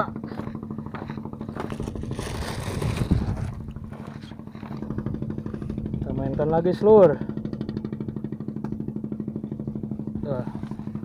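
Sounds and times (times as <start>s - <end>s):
small engine puttering: 0.0s - 11.0s.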